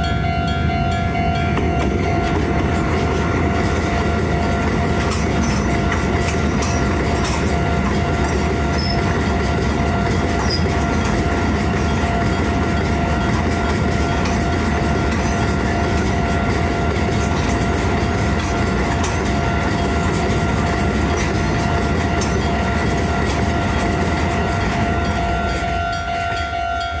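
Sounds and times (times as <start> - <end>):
crossing warning bell ringing: 0.0 - 27.0
train wheels clacking over rail joints: 1.5 - 27.0.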